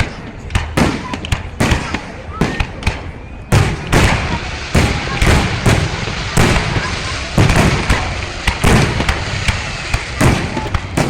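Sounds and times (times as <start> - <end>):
fireworks bangs and pops: 0.0 - 11.0
fireworks crackle: 0.0 - 11.0.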